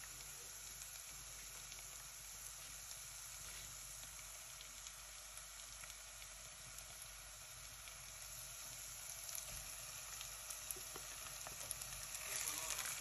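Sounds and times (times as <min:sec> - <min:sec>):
light crackles: 0:00.0 - 0:13.0
meat sizzling in oil: 0:00.0 - 0:13.0.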